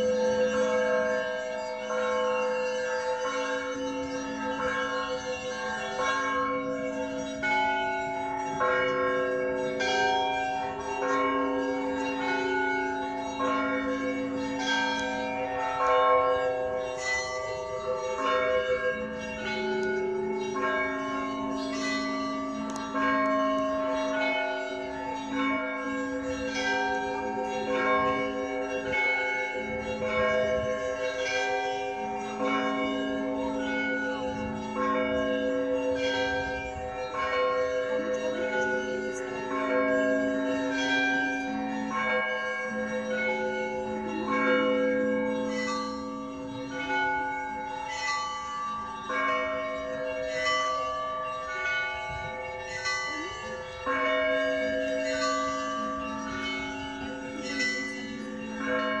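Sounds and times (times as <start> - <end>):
church bells ringing: 0.0 - 59.0.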